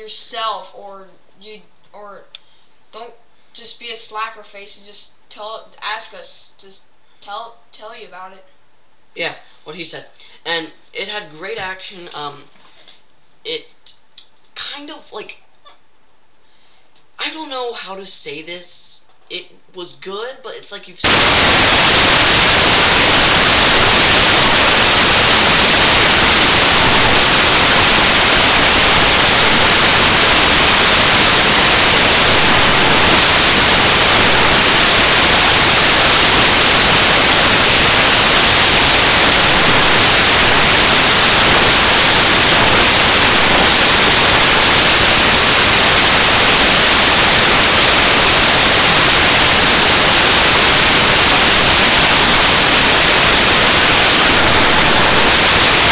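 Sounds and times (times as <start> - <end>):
electronic static hiss: 0.0 - 55.9.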